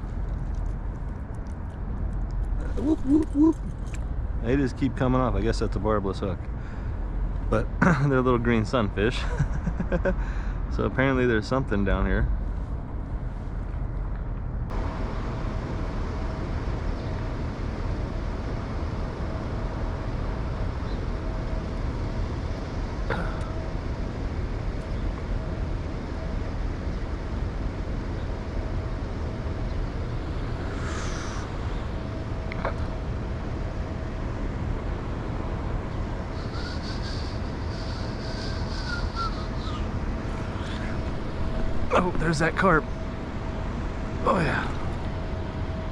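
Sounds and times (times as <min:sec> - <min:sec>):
low city rumble: 0:00.0 - 0:45.9.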